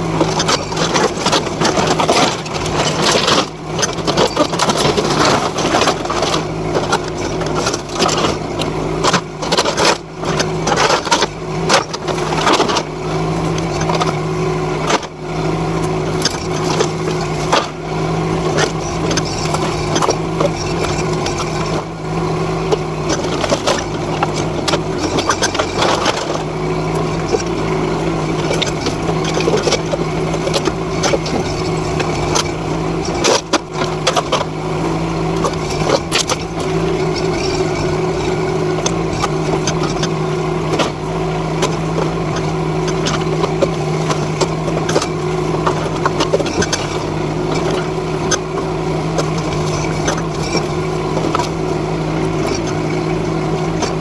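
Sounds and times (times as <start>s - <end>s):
excavator engine running: 0.0s - 54.0s.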